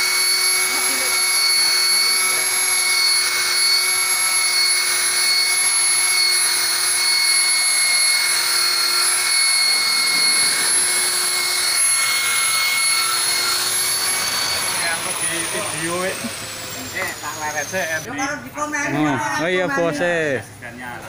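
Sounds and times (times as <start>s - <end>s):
electric car polisher motor whine: 0.0s - 18.1s.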